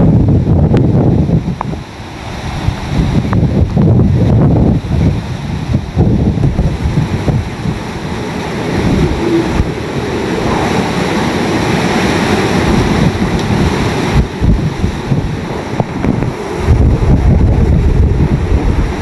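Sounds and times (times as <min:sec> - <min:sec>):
strong wind gusting: 0:00.0 - 0:19.0
wind buffeting microphone: 0:00.0 - 0:19.0.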